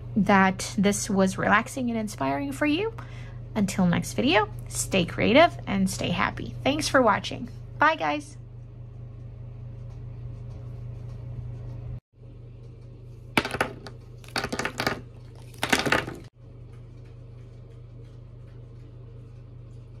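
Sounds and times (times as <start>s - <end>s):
steady low hum: 0.0s - 14.3s, 16.3s - 20.0s.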